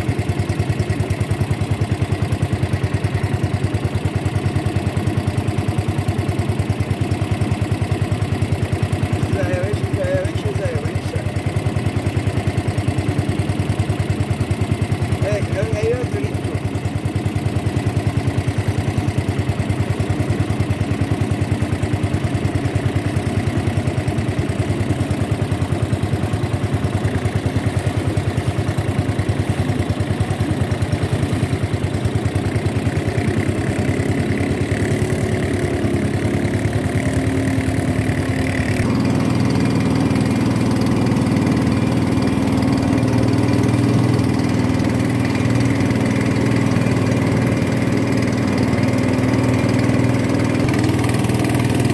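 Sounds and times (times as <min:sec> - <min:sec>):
boat motor running: 0:00.0 - 0:51.9.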